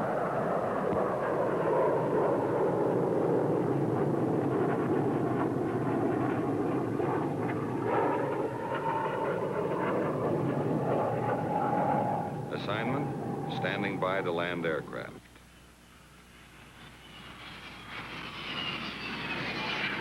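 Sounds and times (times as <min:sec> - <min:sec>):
jet engine rushing and whining: 0:00.0 - 0:15.0, 0:16.3 - 0:20.0.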